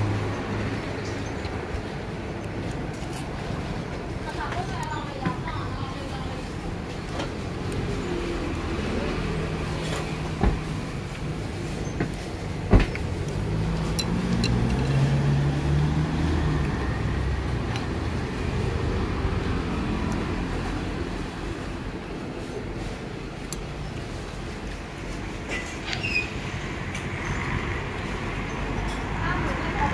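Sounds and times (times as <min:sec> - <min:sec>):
street rumble: 0:00.0 - 0:29.9.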